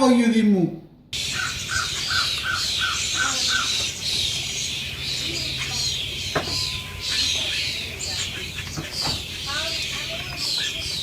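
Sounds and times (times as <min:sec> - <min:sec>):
lower chirps: 0:01.2 - 0:11.0
pet birds chirping and squawking: 0:01.2 - 0:11.0.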